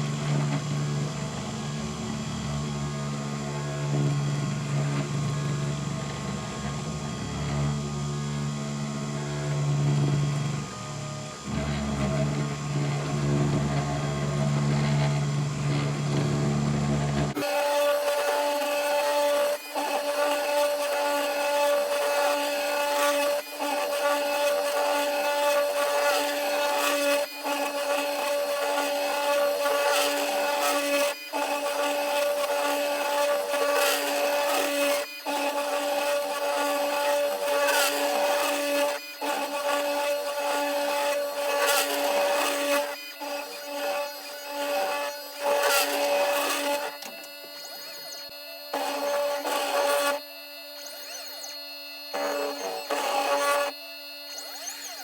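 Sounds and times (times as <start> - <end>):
spindle whine: 0.0 - 55.0.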